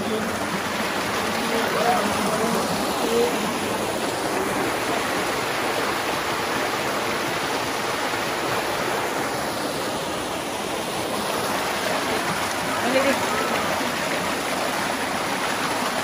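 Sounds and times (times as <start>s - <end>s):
flowing stream water rushing: 0.0s - 16.0s.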